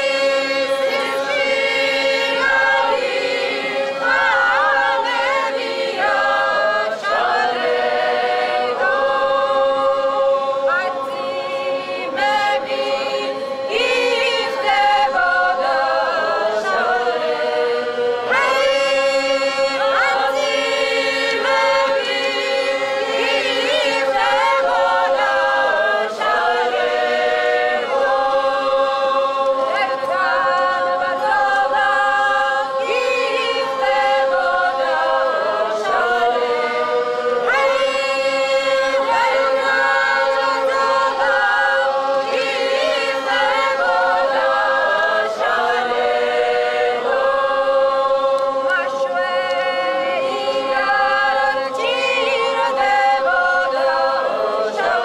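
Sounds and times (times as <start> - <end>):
voices singing unaccompanied: 0.0 - 55.0.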